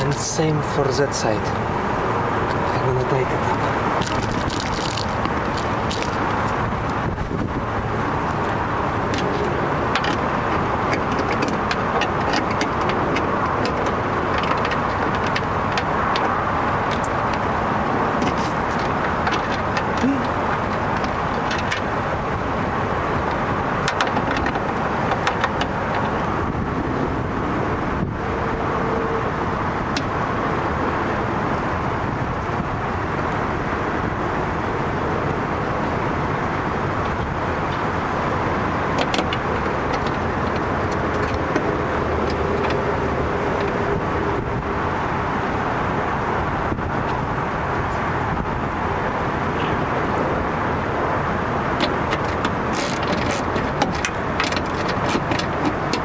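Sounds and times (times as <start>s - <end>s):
steady vehicle noise: 0.0s - 56.0s.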